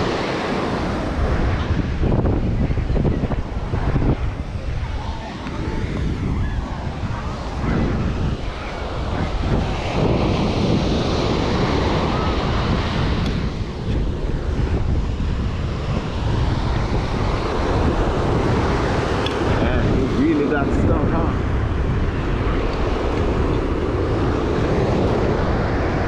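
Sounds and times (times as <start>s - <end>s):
ocean surf on beach: 0.0s - 26.0s
wind buffeting microphone: 0.0s - 26.0s.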